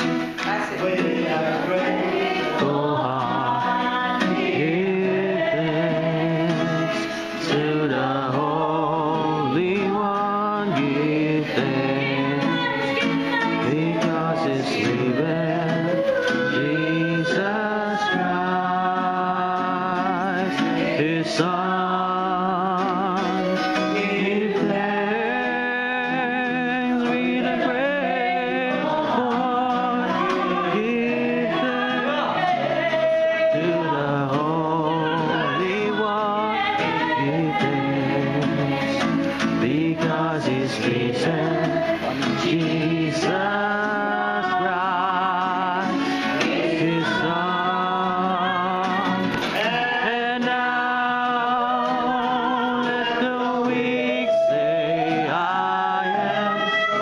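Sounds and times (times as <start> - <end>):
acoustic guitar: 0.0 - 57.0
woman and man singing: 0.0 - 57.0.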